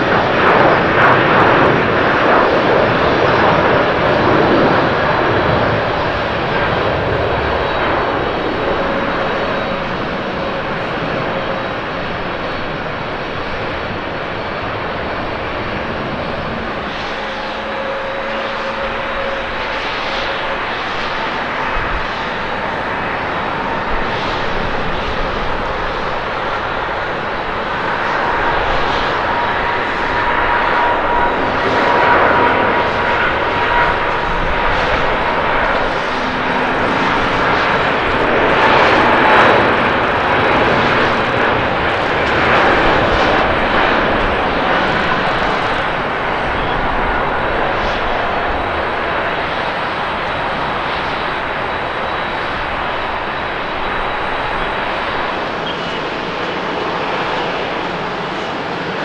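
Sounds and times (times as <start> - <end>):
high jet engine whine: 0.0 - 59.0
jet engines roaring at takeoff: 0.0 - 59.0.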